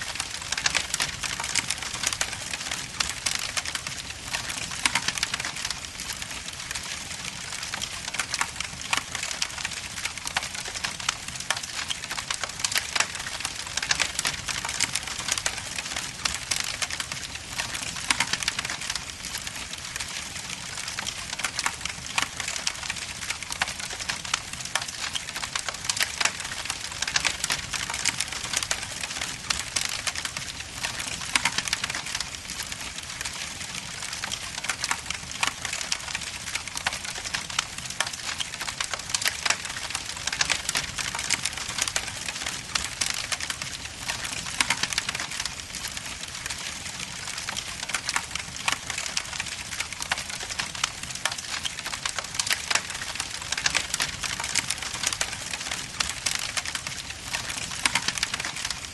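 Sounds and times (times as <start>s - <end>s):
wood logs crackling in fire: 0.0s - 58.9s.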